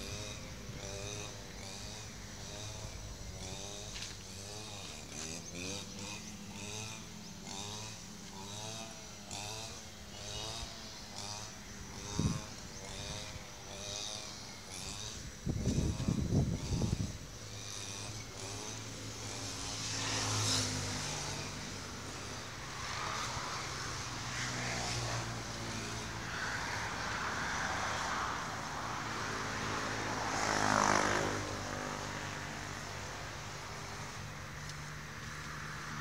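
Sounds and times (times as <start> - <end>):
traffic engine hum: 0.0 - 36.0
vehicles passing: 0.0 - 36.0.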